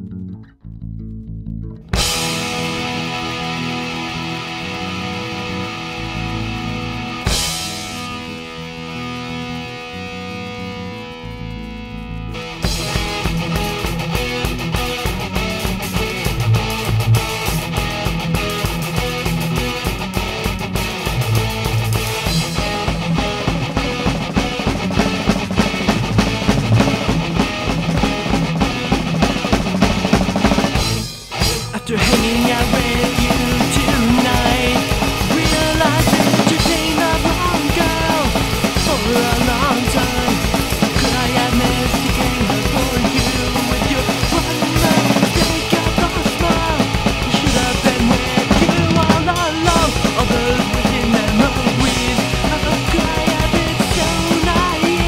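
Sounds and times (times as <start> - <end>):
pop-punk band playing: 1.8 - 55.0
driving drum kit: 1.9 - 10.0, 12.3 - 55.0.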